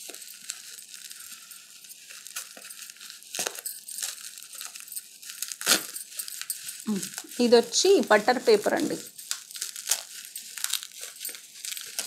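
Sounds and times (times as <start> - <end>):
bubble wrap crinkling and tearing: 0.0 - 12.0.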